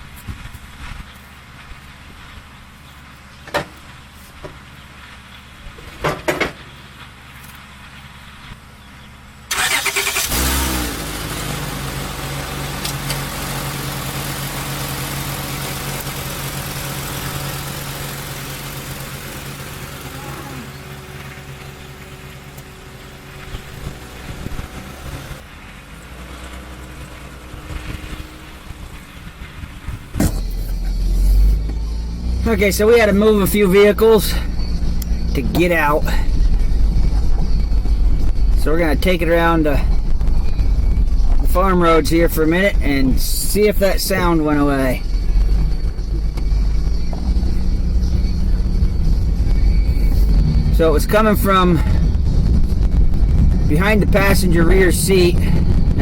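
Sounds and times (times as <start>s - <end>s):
car engine cranking and idling: 0.0s - 56.0s.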